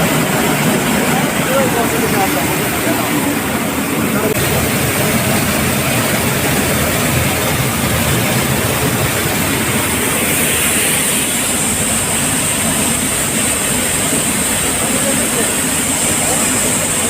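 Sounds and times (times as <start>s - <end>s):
machine running loudly: 0.0s - 17.0s.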